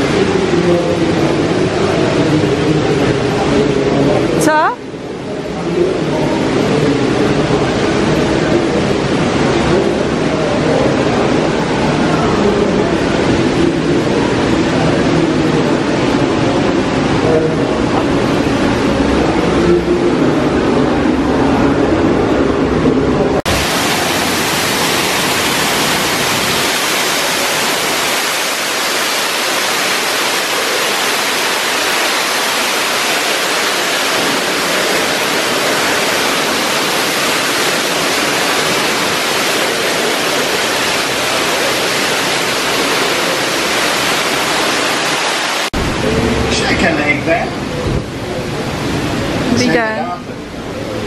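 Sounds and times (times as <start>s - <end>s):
indoor waterfall rushing: 0.0s - 51.0s.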